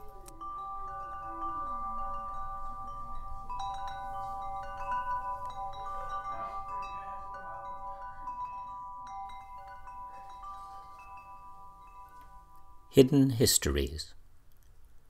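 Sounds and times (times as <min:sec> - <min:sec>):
metallic chimes ringing: 0:00.0 - 0:14.2.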